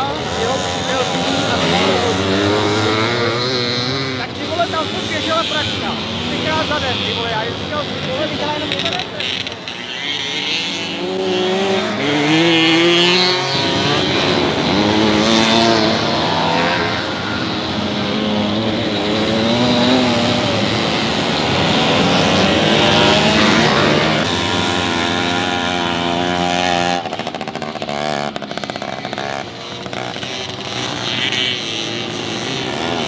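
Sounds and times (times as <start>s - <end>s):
two-stroke motorcycle engines revving: 0.0s - 33.0s.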